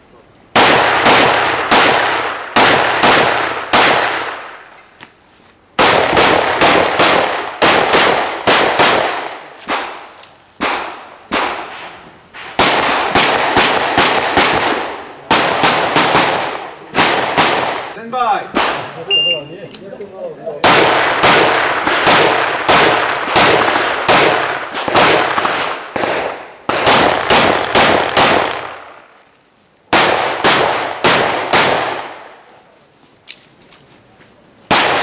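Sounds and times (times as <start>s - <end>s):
pistol shots with echo: 0.5s - 4.7s, 5.8s - 19.4s, 20.6s - 29.0s, 29.9s - 32.5s, 34.7s - 35.0s.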